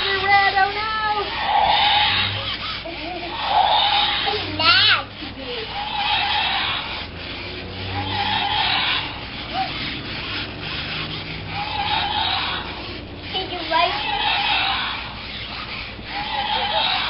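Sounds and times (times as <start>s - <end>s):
rubbing scuffing noise: 0.0s - 17.0s
toy wheel motors running: 0.0s - 17.0s.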